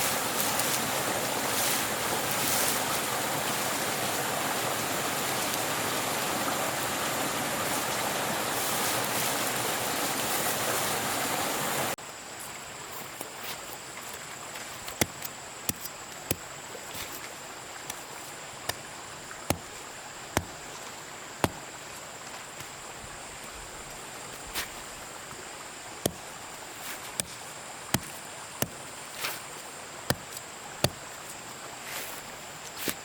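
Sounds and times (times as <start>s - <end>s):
outdoor hiss: 0.0s - 33.0s.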